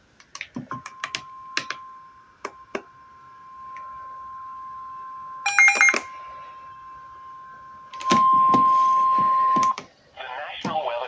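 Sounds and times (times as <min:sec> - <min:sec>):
buzzy electronic beeps: 0:00.4 - 0:09.8
warning alarm tone: 0:00.6 - 0:09.8.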